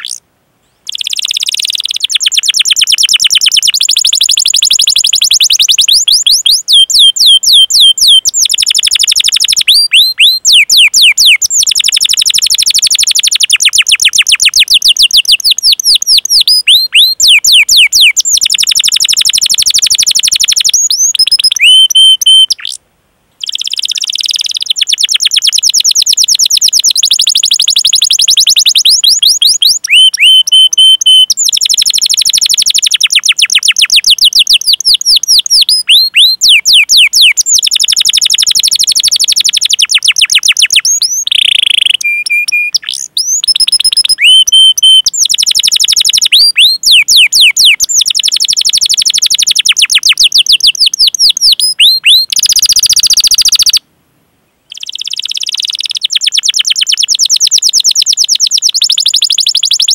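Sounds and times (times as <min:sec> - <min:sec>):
canary singing trills: 0:00.0 - 0:22.8, 0:23.4 - 0:53.8, 0:54.7 - 0:59.9
sweeping chirp calls: 0:00.0 - 0:22.8, 0:23.4 - 0:53.8, 0:54.6 - 0:59.9.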